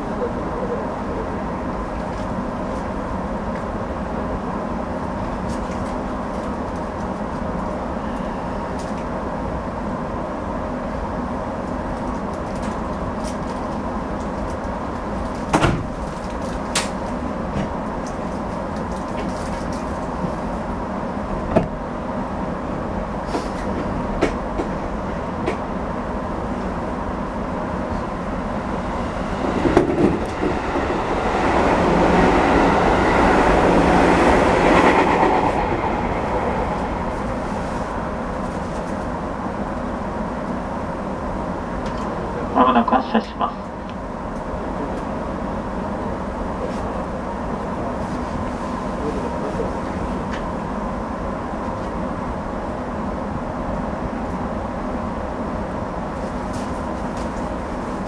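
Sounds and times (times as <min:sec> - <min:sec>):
electric train equipment hum: 0:00.0 - 0:58.0
passing electric train rumble: 0:00.0 - 0:58.0.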